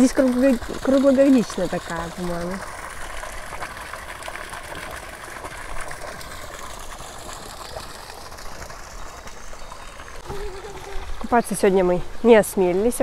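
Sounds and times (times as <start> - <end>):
spring water running: 0.0 - 13.0.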